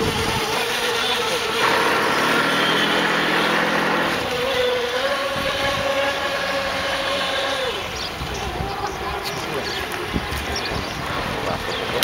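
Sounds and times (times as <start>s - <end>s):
model boat engine whine: 0.0s - 12.0s.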